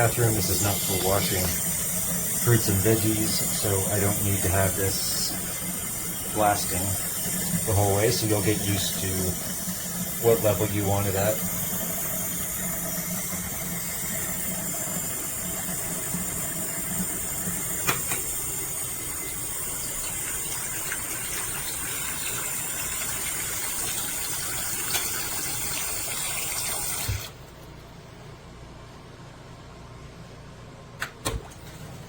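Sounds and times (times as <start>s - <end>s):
faucet water running into sink: 0.0s - 27.4s.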